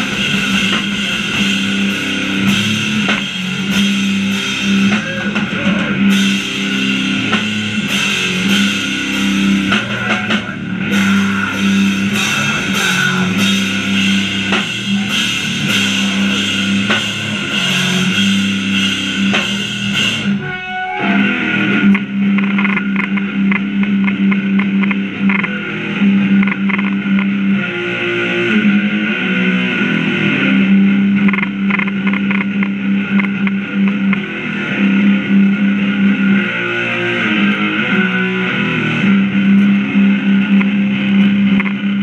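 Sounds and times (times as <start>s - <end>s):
punk band playing live: 0.0s - 42.0s.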